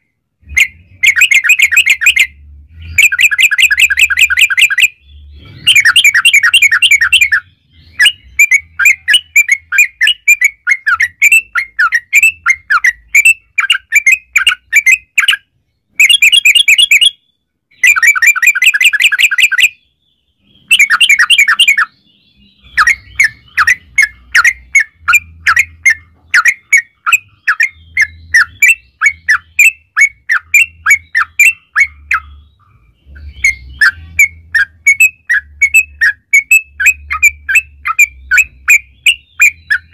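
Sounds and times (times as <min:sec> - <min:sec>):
bird chattering calls: 0:00.4 - 0:17.2, 0:20.4 - 0:22.0, 0:22.6 - 0:39.9.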